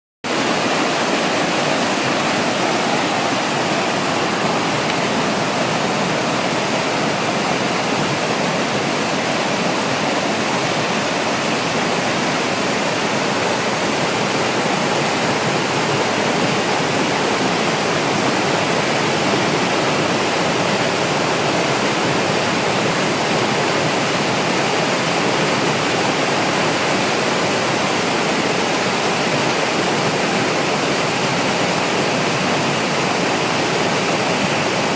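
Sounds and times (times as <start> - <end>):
waterfall roaring: 0.2 - 34.9.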